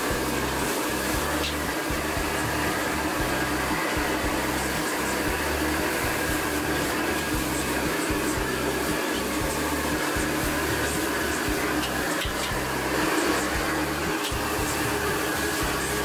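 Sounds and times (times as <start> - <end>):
wok burner roaring: 0.0 - 16.0.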